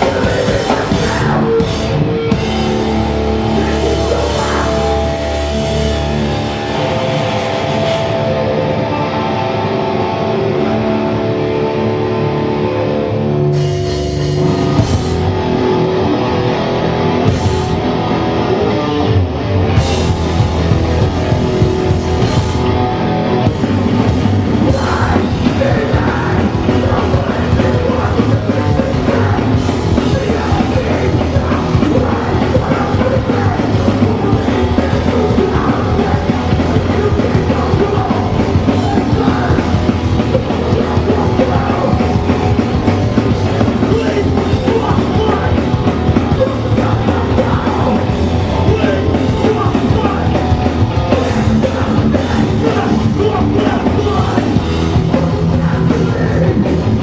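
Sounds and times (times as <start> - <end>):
electric guitar chords: 0.0 - 57.0
punk band playing fast: 0.0 - 57.0.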